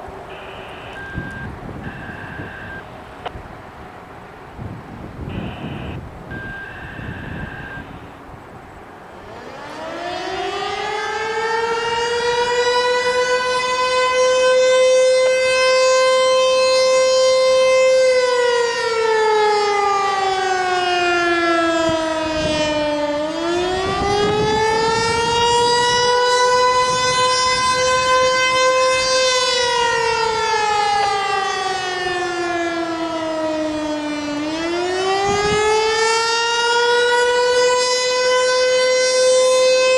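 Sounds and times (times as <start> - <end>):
civil defense siren wailing: 0.0 - 39.9.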